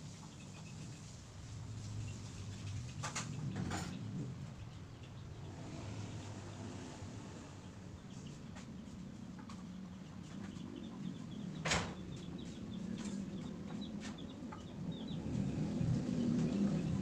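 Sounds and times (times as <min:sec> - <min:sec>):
low steady background rumble: 0:00.0 - 0:17.0
small birds chirping: 0:00.0 - 0:17.0.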